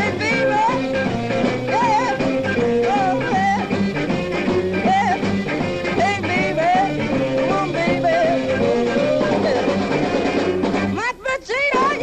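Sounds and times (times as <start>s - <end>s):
live rhythm and blues band: 0.0s - 12.0s.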